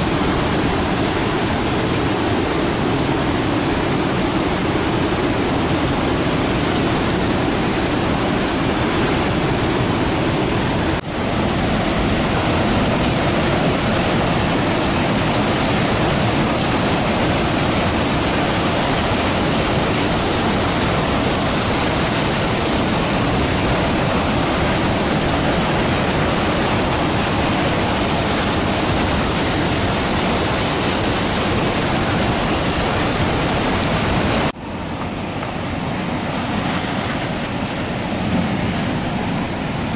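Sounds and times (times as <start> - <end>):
waves crashing on rocky shore: 0.0 - 39.9.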